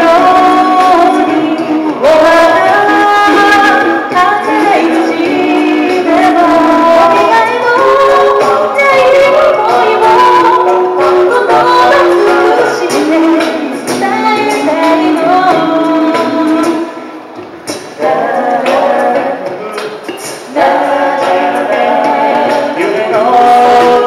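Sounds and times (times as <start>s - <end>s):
a cappella group singing: 0.0s - 24.0s.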